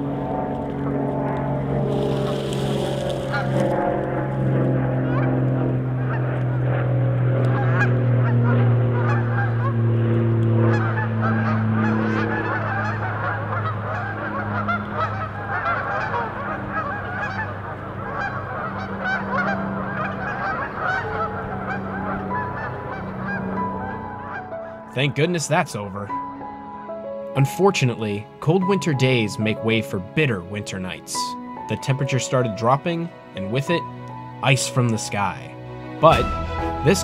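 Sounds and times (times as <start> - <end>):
propeller plane engine drone: 0.0 - 37.0
flock of geese honking: 0.6 - 6.8, 7.4 - 25.9, 27.5 - 37.0.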